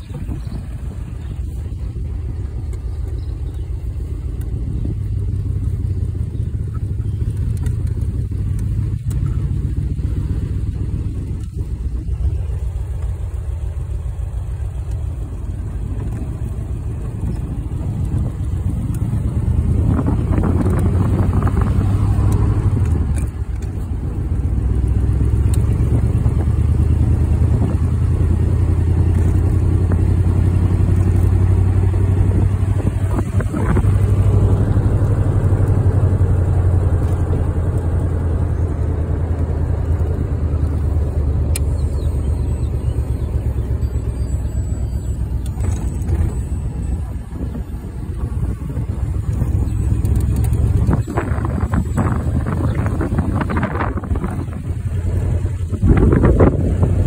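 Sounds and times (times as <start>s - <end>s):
hot rod engine rumbling: 0.0s - 57.0s.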